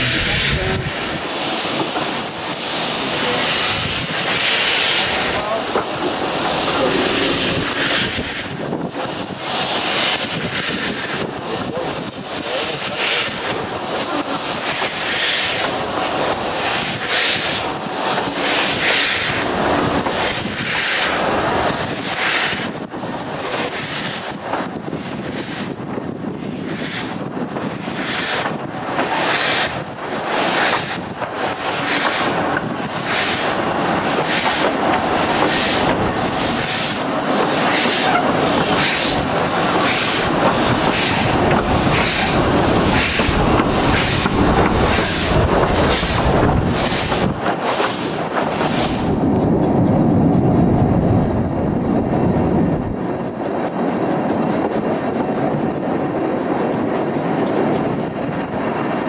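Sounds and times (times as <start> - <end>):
steam train running: 0.0 - 59.0
wind noise on microphone: 0.0 - 59.0.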